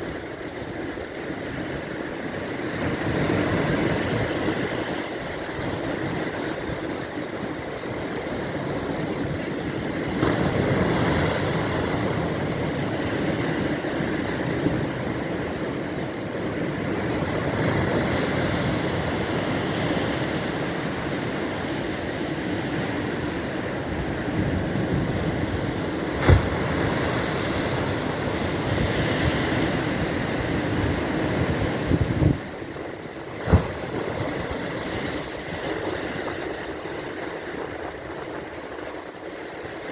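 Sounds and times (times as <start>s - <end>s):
surf washing onto shore: 0.0s - 39.9s
wind rumbling on microphone: 0.0s - 39.9s.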